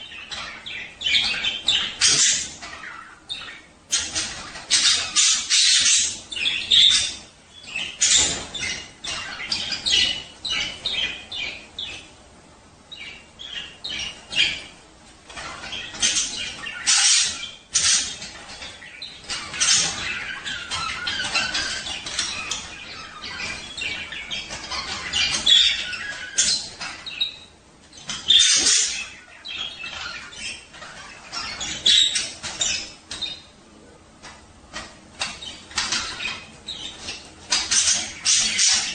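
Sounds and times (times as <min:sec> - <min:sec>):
budgerigars chattering: 0:00.0 - 0:12.2, 0:12.9 - 0:33.6, 0:34.2 - 0:38.9.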